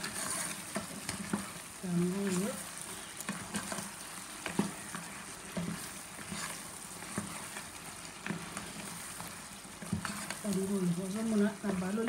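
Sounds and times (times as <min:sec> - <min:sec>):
stew sizzling in a pot: 0:00.0 - 0:12.0
wooden spoon stirring: 0:00.0 - 0:12.0.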